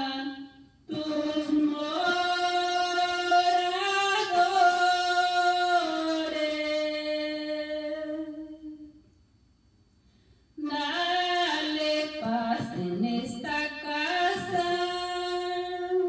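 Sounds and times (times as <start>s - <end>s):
woman singing unaccompanied: 0.0s - 8.9s, 10.6s - 16.0s.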